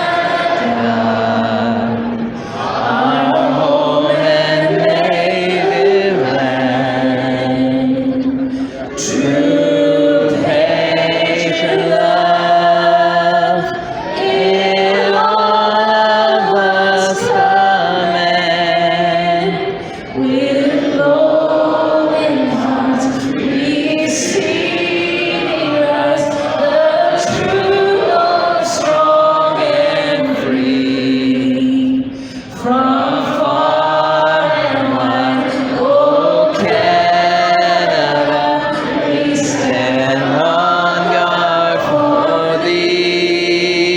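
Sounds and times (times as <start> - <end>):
voices singing together: 0.0 - 43.9.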